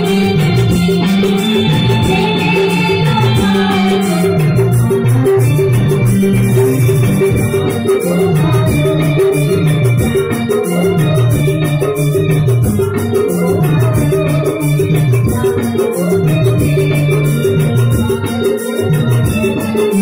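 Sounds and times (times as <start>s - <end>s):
loud stage music over loudspeakers: 0.0s - 20.0s.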